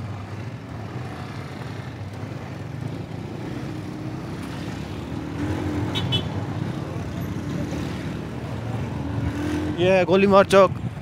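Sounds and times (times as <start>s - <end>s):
other vehicle engines: 0.0s - 11.0s
road and wind noise: 0.0s - 11.0s.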